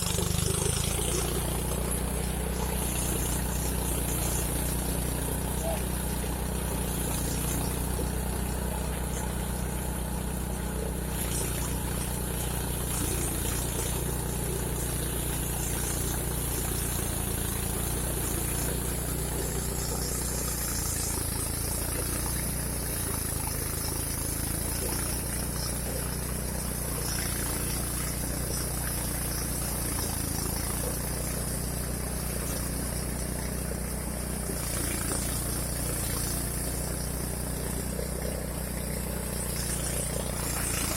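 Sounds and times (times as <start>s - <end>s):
threshing machine engine running: 0.0s - 40.9s.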